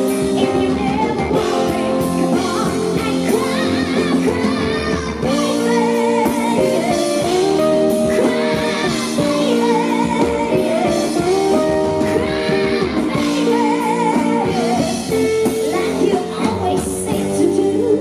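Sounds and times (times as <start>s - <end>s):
rock band playing: 0.0s - 18.0s
woman singing with vibrato: 0.0s - 18.0s.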